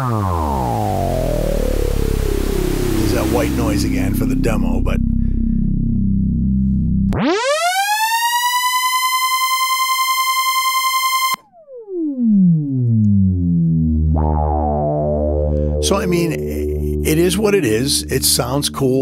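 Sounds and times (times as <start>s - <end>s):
bass synthesizer sweeping in pitch: 0.0s - 18.9s.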